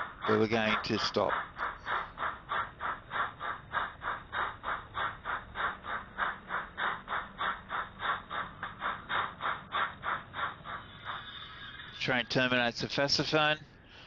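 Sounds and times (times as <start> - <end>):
steam locomotive chuffing: 0.0 - 13.6.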